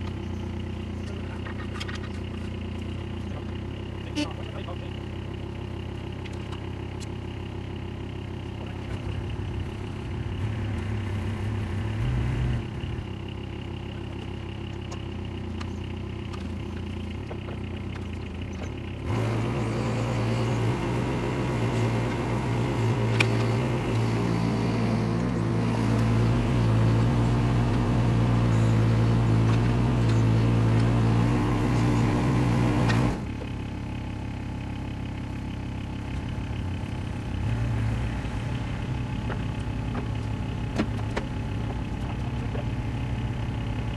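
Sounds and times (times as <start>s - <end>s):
diesel engine idling and revving: 0.0s - 43.9s.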